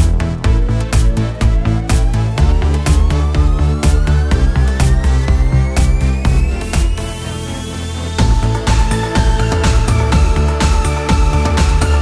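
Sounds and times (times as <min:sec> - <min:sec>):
music drum beat: 0:00.0 - 0:07.3, 0:08.2 - 0:12.0.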